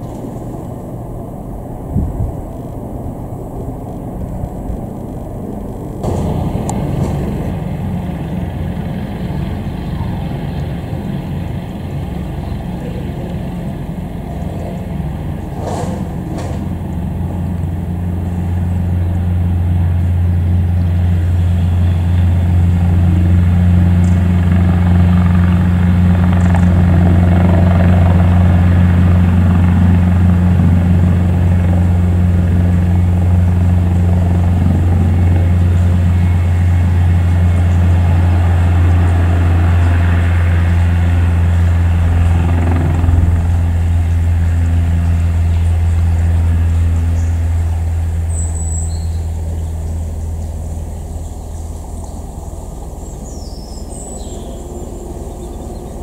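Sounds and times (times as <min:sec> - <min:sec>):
helicopter taking off: 0:00.0 - 0:56.0.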